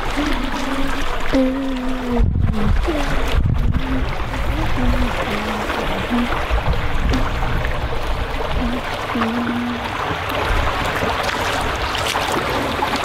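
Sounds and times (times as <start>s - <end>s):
creek water sloshing and trickling: 0.0s - 13.0s
splashes of wading: 0.0s - 13.0s.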